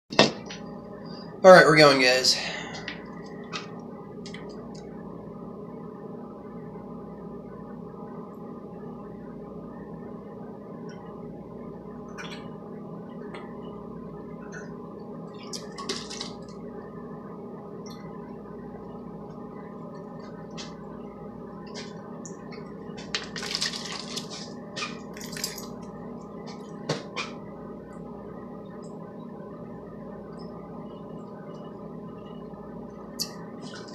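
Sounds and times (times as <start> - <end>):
low hum: 0.4 - 33.9.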